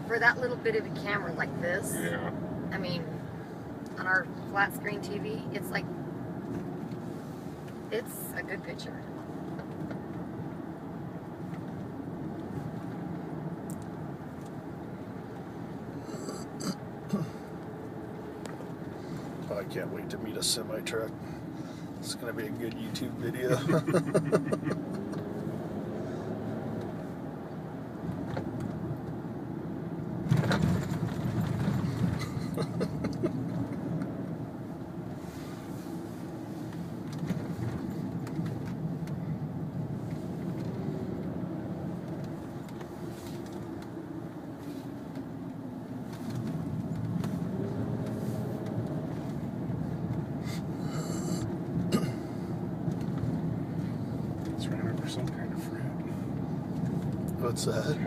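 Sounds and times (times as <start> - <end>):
engine hum: 0.0 - 58.0
road and tyre noise: 0.0 - 58.0.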